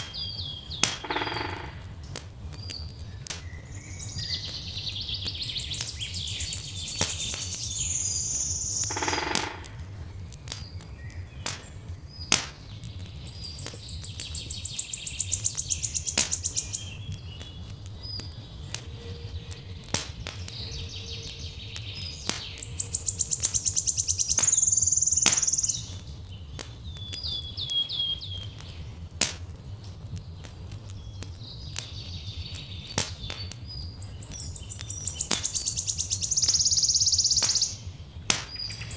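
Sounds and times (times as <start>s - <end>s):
songbirds singing: 0.0s - 38.9s
wood fire crackling: 0.0s - 38.9s.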